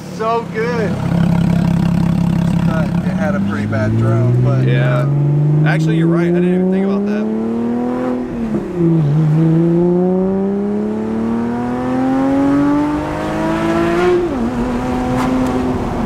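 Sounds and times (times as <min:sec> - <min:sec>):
car exhaust accelerating: 0:00.0 - 0:16.0.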